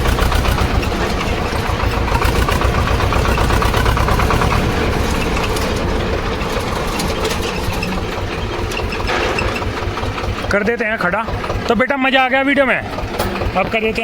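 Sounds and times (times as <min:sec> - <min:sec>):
tractor diesel engine chugging: 0:00.0 - 0:14.0.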